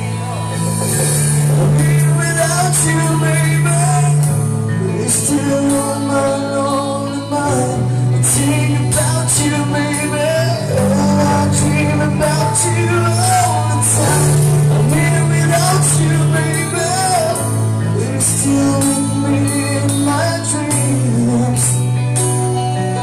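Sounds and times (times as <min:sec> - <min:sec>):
live band playing pop-rock: 0:00.0 - 0:23.0.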